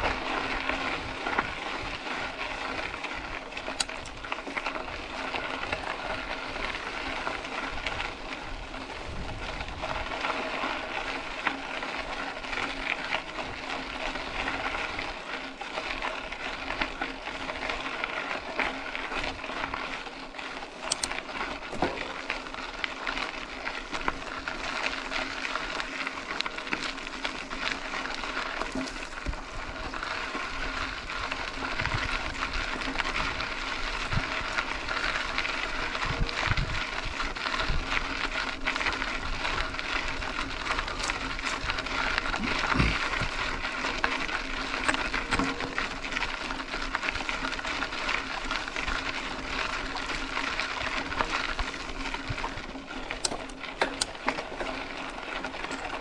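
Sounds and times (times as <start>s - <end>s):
bike clicks and rattles: 0.0s - 56.0s
tyres crunching on gravel: 0.0s - 56.0s.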